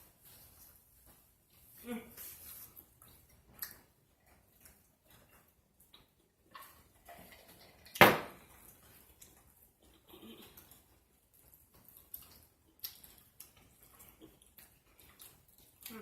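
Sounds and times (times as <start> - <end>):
chewing and lip smacking: 2.5 - 16.0.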